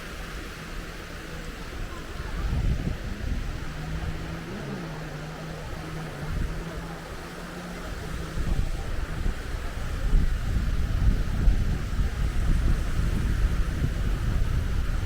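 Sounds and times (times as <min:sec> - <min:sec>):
sea wash: 0:00.0 - 0:15.0
wind gusting on microphone: 0:00.0 - 0:15.0.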